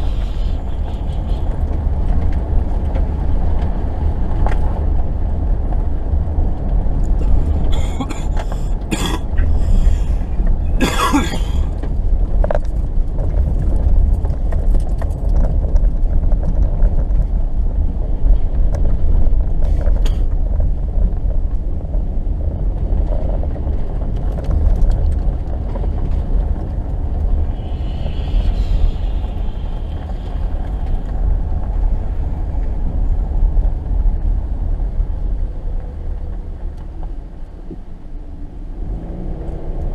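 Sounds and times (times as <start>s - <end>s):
car driving over snow: 0.0s - 39.9s.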